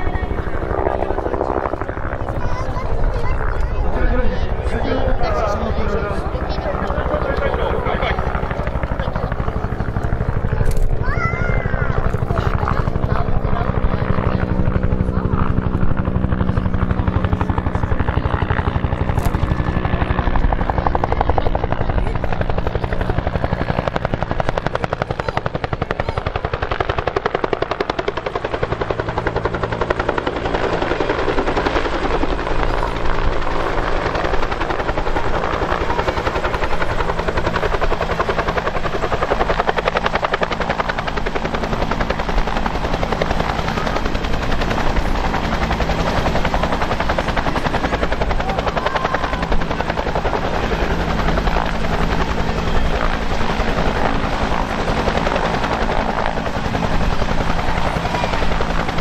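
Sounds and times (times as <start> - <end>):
helicopter rotor chopping: 0.0 - 59.0.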